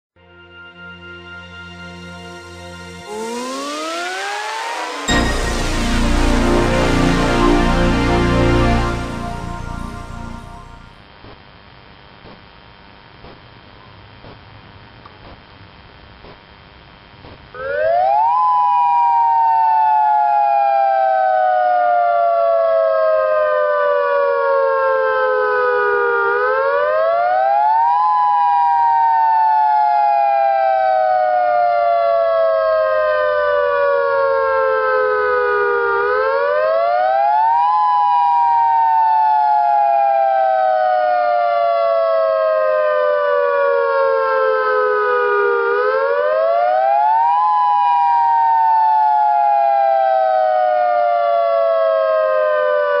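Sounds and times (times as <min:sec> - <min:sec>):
electronic siren dual-tone wail: 0:00.2 - 0:11.0, 0:17.6 - 0:53.0.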